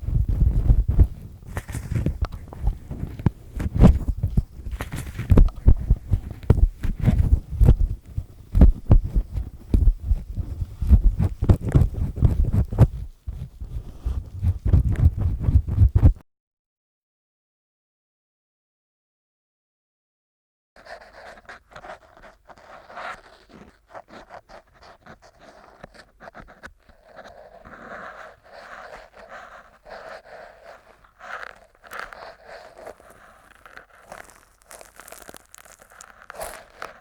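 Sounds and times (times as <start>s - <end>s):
earpick scraping inside ear: 0.0s - 16.2s, 20.8s - 37.0s.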